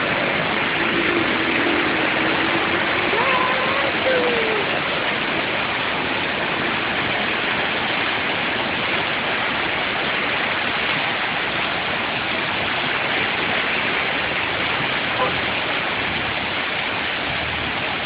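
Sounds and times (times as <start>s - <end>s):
rainwater rushing: 0.0s - 18.0s.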